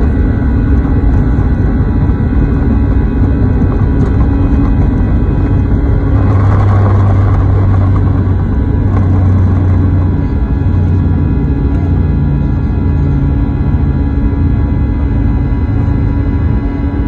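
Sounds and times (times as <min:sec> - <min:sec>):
jet engines roaring: 0:00.0 - 0:17.0
low rumble of takeoff roll: 0:00.0 - 0:17.0.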